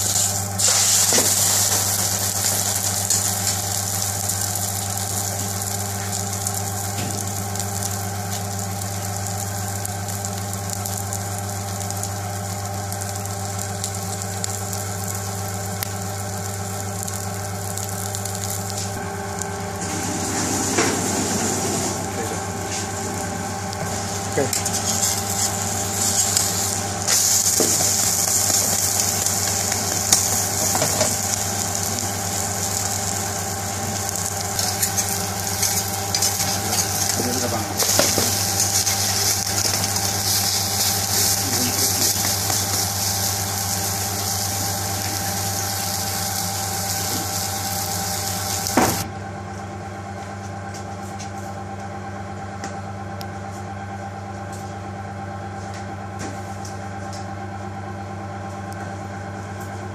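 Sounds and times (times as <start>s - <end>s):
omelette sizzling in frying pan: 0.0s - 49.0s
steady hum: 0.0s - 59.9s.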